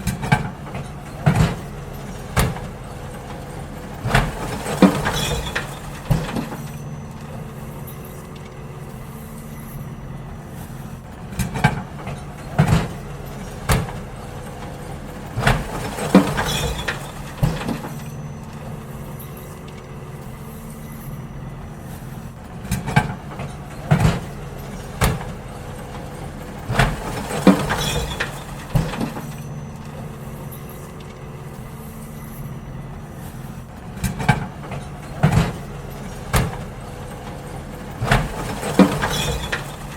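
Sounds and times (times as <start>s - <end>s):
bins clunking and banging: 0.0s - 39.9s
garbage truck engine running: 0.0s - 39.9s.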